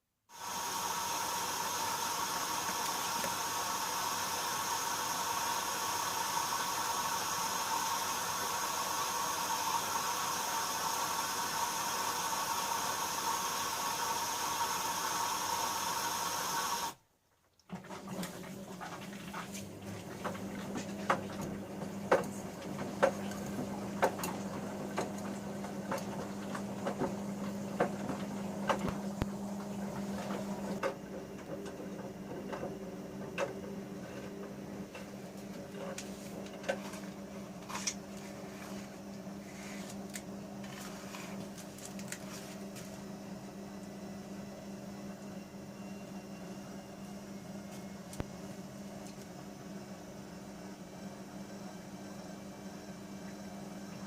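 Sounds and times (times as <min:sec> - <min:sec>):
washing machine motor hum: 0:00.3 - 0:17.0, 0:17.6 - 0:54.0.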